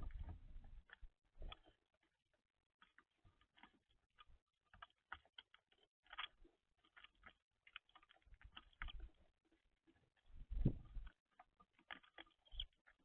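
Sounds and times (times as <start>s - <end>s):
birds pecking at seed feeder: 0.1s - 13.0s.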